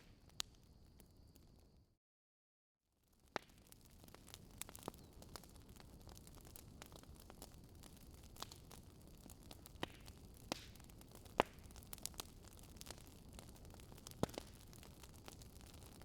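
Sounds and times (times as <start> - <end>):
campfire crackling and popping: 0.0 - 1.8, 3.0 - 16.0.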